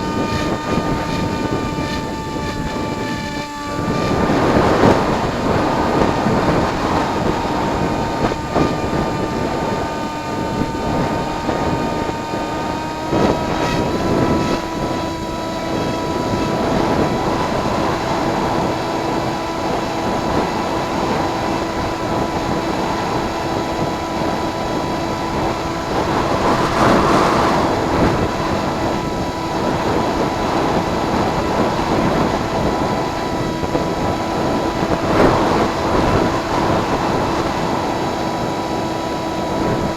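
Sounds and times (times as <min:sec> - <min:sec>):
electric motor and propeller drone: 0:00.0 - 0:39.9
wind rushing over microphone: 0:00.0 - 0:39.9.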